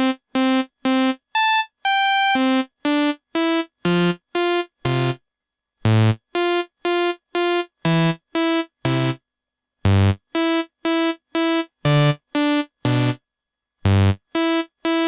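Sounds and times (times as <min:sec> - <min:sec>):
synthesized keyboard ringtone tune: 0:00.0 - 0:05.2, 0:05.9 - 0:09.2, 0:09.9 - 0:13.2, 0:13.9 - 0:15.0.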